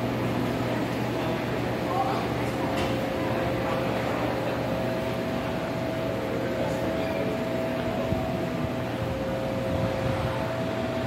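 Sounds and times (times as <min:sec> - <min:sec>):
machinery hum: 0:00.0 - 0:11.0
steady mid-pitched tones: 0:00.0 - 0:11.0.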